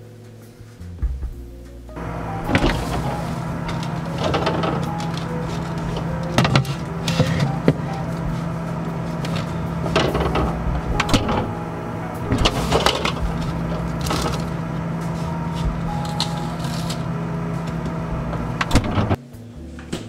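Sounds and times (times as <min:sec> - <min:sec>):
refrigerator low hum: 0:00.6 - 0:20.0.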